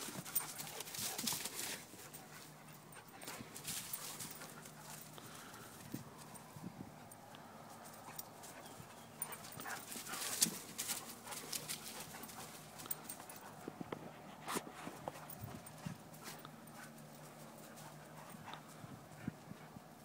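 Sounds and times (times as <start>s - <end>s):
dogs scuffling in play: 0.0s - 6.4s, 8.4s - 19.7s.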